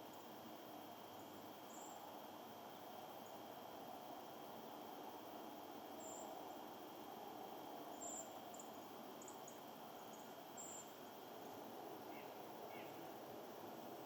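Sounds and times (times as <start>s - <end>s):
steady soft hiss: 0.0s - 14.0s.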